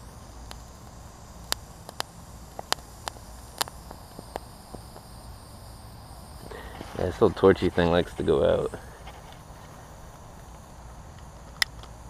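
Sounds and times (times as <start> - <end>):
eggs popping under hot torch: 0.0 - 12.0.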